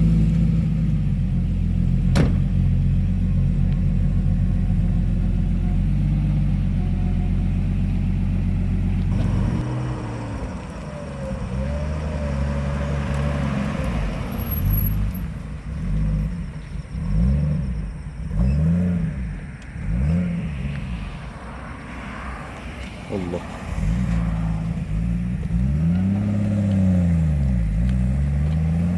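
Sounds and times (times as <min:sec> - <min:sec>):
car engine idling: 0:00.0 - 0:28.9
car engine revving: 0:00.0 - 0:28.9.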